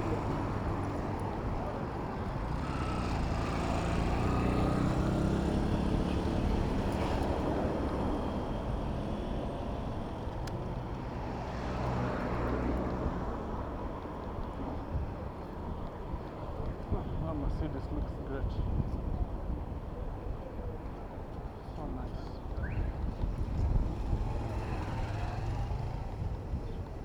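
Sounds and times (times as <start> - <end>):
street noise: 0.0 - 27.0.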